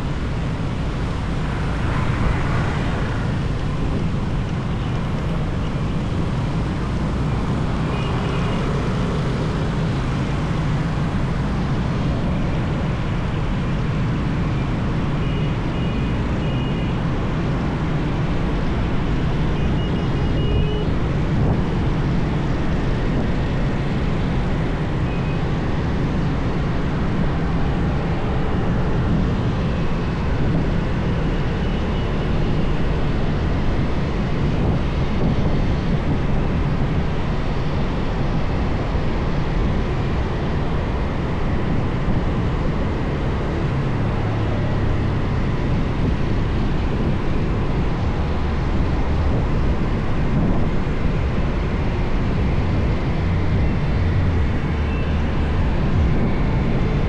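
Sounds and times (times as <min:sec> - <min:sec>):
motorbike engine and road noise: 0:00.0 - 0:57.0.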